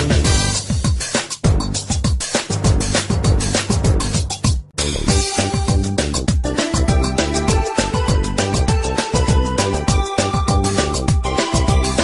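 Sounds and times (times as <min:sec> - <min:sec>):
upbeat funk music: 0:00.0 - 0:12.0.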